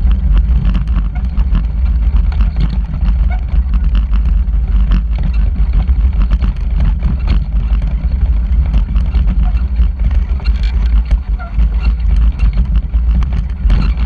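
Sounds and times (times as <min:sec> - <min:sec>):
rattles and knocks: 0:00.0 - 0:14.0
vehicle rumble: 0:00.0 - 0:14.0.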